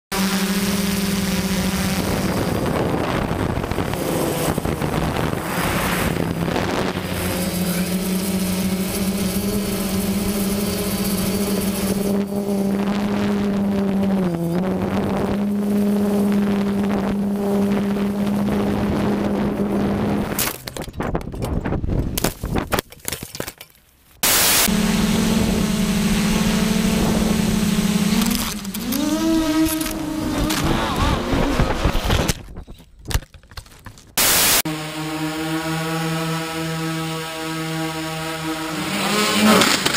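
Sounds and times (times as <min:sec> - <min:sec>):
drone propellers whining: 0:00.1 - 0:21.0, 0:24.2 - 0:32.9, 0:34.2 - 0:39.9.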